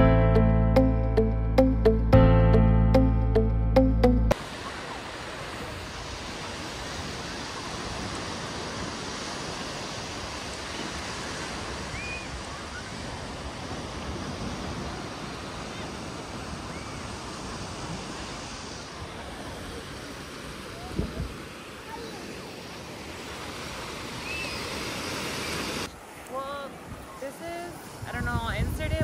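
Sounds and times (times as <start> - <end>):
ocean surf washing onto beach: 4.3 - 29.0.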